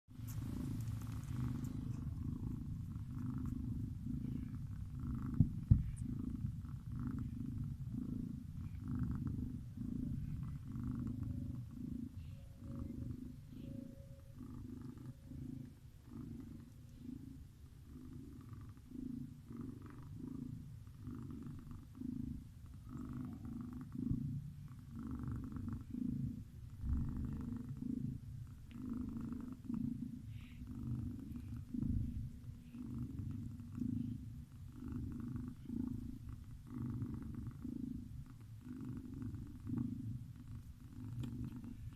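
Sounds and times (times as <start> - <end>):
cat snoring: 0.3 - 41.9.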